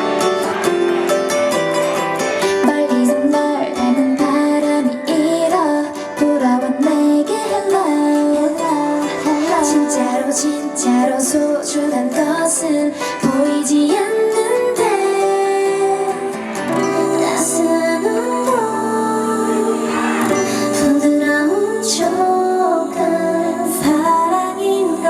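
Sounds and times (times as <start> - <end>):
backing track with plucked strings: 0.0 - 25.0
women singing pop: 2.5 - 25.0.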